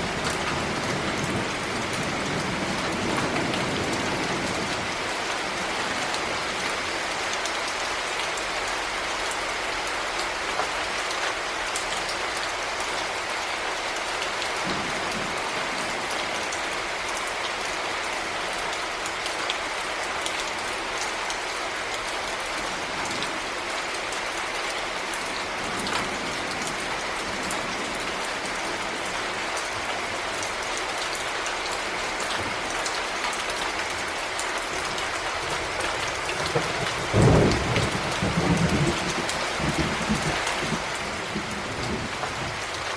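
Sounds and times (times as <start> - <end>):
heavy rain hiss: 0.0 - 42.9
raindrops ticking on surface: 0.0 - 42.9.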